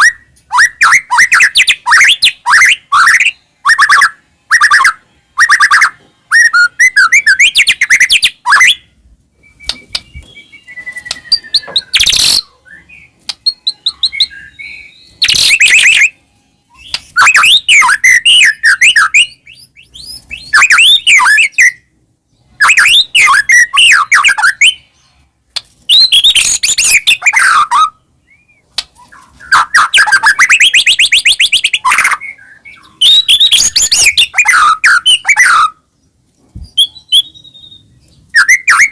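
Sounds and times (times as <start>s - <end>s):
songbird whistling and trilling: 0.0s - 21.9s, 22.6s - 24.9s, 25.9s - 35.9s, 36.6s - 38.9s.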